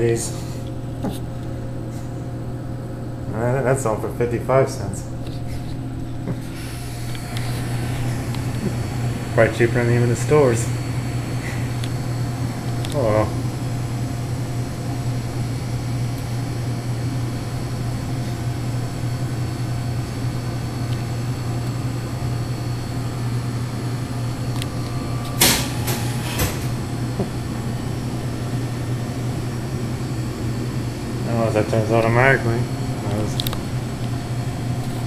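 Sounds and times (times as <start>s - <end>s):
vending machines humming: 0.0s - 35.0s.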